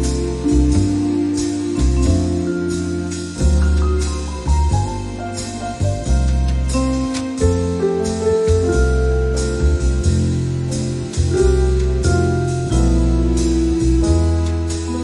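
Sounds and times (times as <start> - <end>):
deep bass line: 0.0 - 15.0
held keyboard notes: 0.0 - 15.0.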